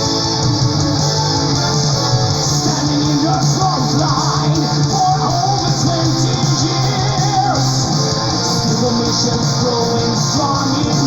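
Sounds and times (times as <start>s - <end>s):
metal song with electric guitar: 0.0s - 11.0s.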